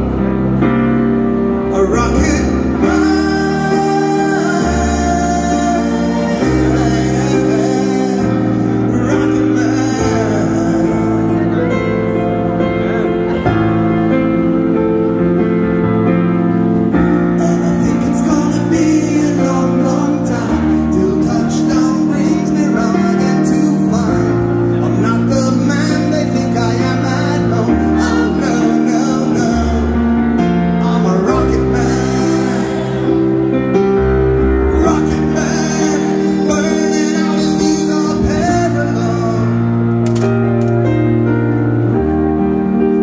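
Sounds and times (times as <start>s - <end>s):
grand piano: 0.0s - 43.0s
man singing a slow song: 1.6s - 14.7s, 17.0s - 40.1s.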